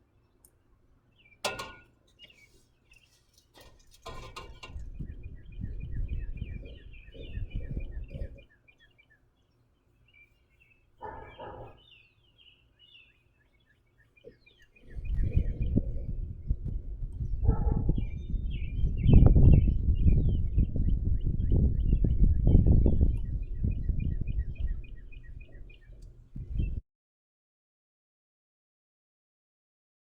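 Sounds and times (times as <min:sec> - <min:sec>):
birds chirping: 0:00.0 - 0:26.8.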